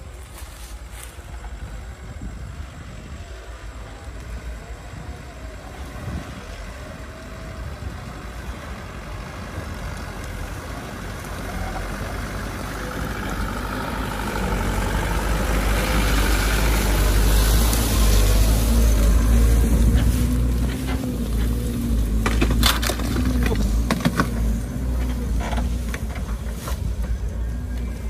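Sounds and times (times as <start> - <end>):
diesel truck engine: 0.0 - 28.0.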